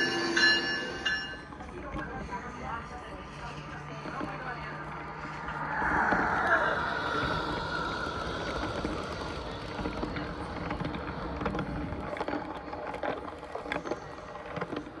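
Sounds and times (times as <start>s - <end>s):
toy train wheels rumbling: 0.0s - 15.0s.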